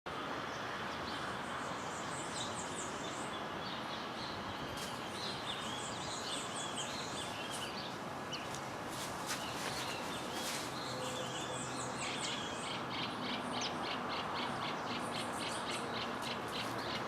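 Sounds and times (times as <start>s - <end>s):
steady background hiss: 0.1s - 17.0s
small birds chirping: 0.4s - 17.0s.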